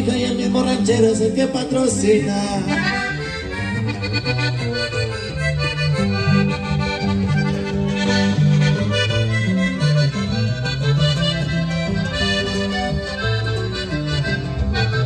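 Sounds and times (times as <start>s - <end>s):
button accordion melody: 0.0s - 15.0s
low bass notes: 0.0s - 15.0s
strummed acoustic guitar: 0.0s - 15.0s.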